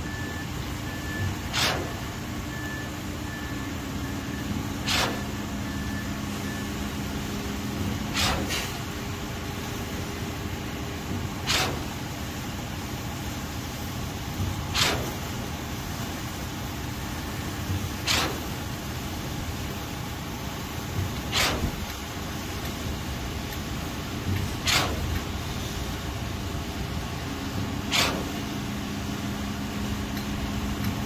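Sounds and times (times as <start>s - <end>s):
heavy engine running: 0.0s - 31.0s.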